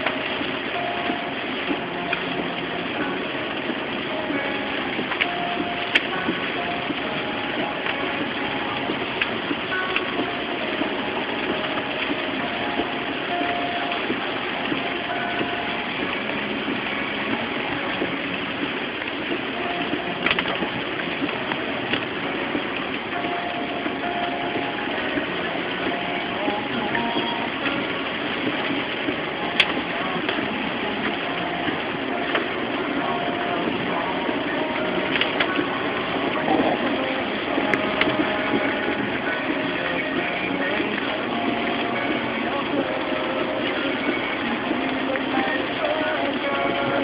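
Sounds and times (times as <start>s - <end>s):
heavy rain and tyre noise: 0.0s - 47.0s.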